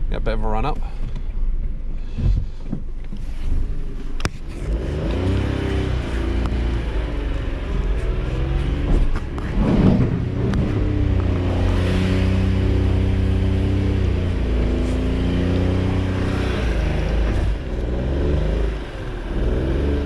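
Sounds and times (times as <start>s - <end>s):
car engine misfiring and revving: 2.4s - 20.0s.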